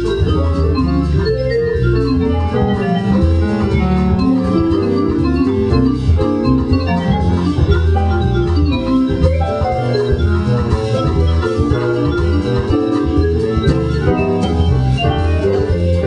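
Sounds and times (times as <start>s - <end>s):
bass line: 0.0s - 16.0s
keyboard chords: 0.0s - 16.0s.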